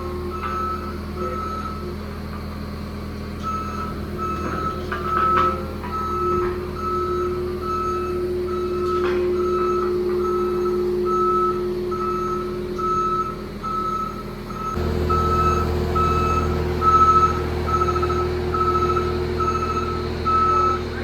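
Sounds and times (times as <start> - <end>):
low machine hum: 0.0 - 21.0
backup alarm beeping: 3.4 - 20.9.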